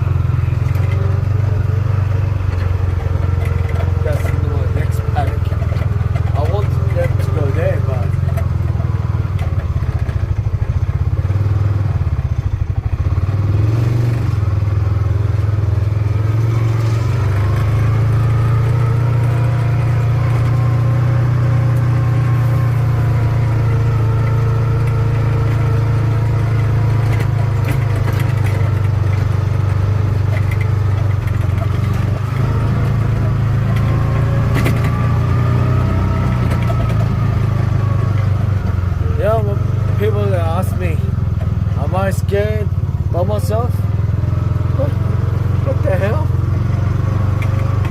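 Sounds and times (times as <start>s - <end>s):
buggy engine running: 0.0s - 47.9s
engine whine: 0.0s - 47.9s.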